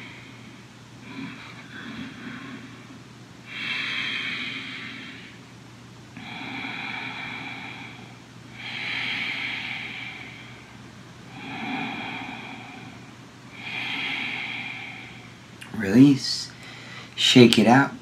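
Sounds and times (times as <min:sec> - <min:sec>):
man breathing slowly: 0:00.0 - 0:15.6, 0:16.5 - 0:17.2.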